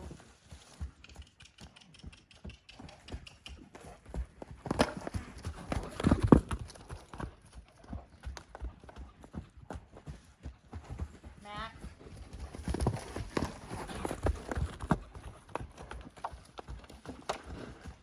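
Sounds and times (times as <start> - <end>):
horse hooves striking ground: 0.0 - 18.0.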